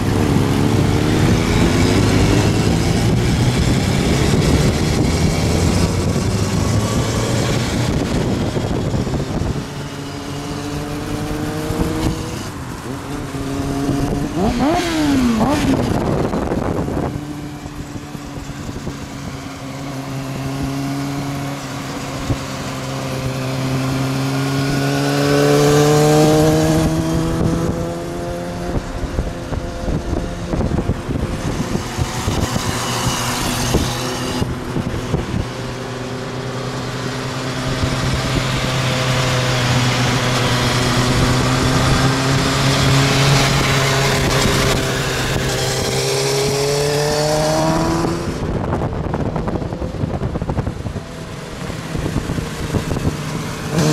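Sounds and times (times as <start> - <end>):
motorcycle engines accelerating: 0.0 - 53.9
road and wind noise: 0.0 - 53.9.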